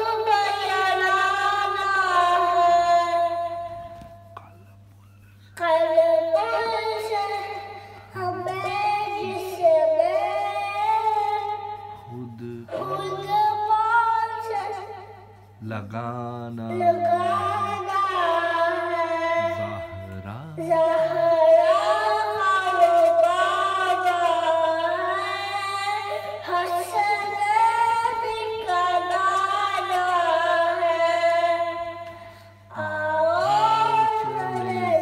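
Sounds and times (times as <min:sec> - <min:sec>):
boy singing into a microphone: 0:00.0 - 0:04.0, 0:05.6 - 0:35.0.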